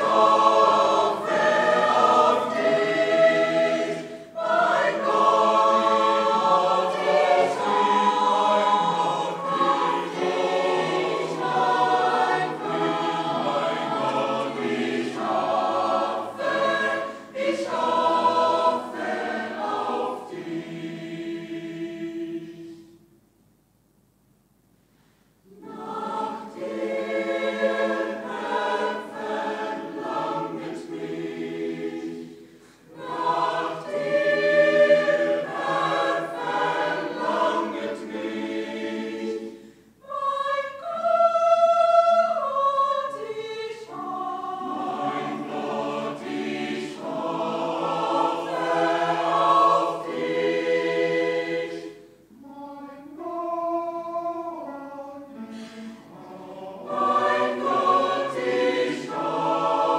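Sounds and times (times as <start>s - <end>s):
choir singing a hymn: 0.0s - 23.1s, 25.4s - 59.9s.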